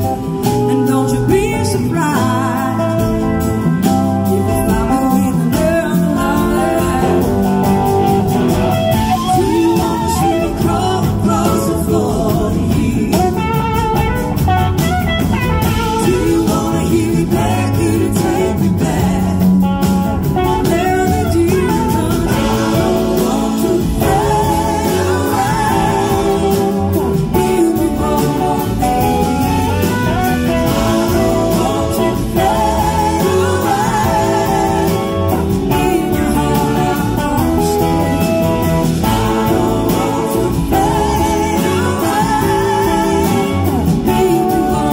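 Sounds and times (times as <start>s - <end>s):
woman singing: 0.0s - 14.4s, 15.6s - 44.9s
blues-rock band playing: 0.0s - 44.9s.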